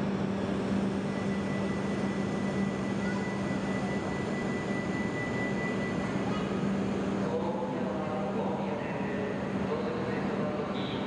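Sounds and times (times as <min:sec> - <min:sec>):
train electrical hum: 0:00.0 - 0:11.0.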